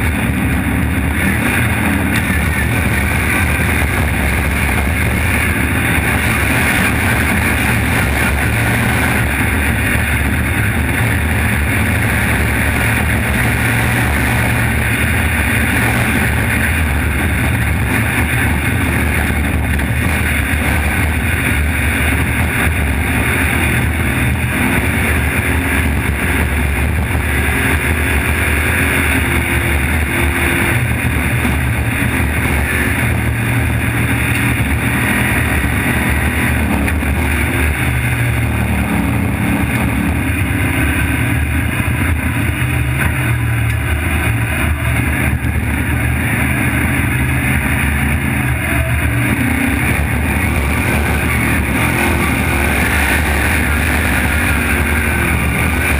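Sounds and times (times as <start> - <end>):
truck engine drone: 0.0 - 55.9.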